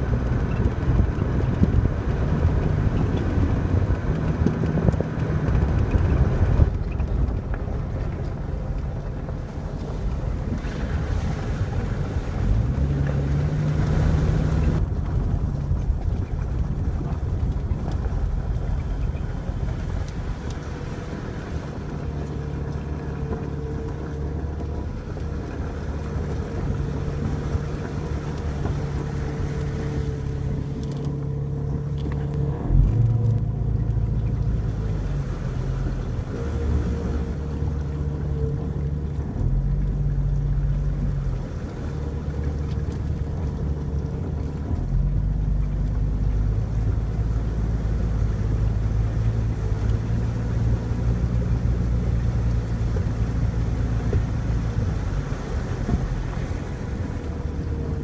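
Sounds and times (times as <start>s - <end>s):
car engine running: 0.0s - 58.0s
water washing around vehicle: 0.0s - 58.0s.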